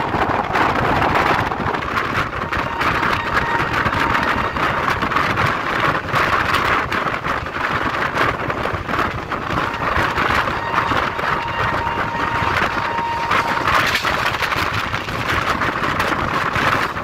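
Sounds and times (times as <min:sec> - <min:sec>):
passenger train running: 0:00.0 - 0:17.0.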